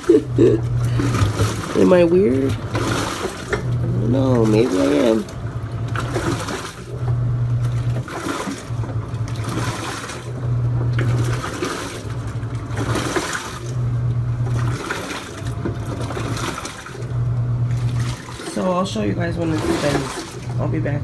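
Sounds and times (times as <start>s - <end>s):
washer motor humming: 0.0s - 21.0s
water and clothes sloshing: 0.0s - 21.0s.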